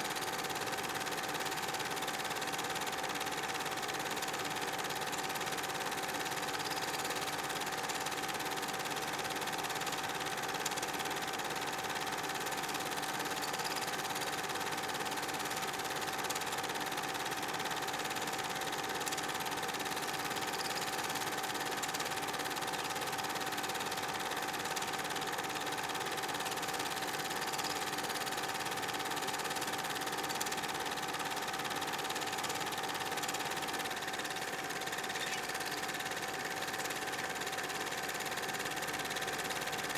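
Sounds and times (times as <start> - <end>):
movie projector whirring: 0.0 - 39.9.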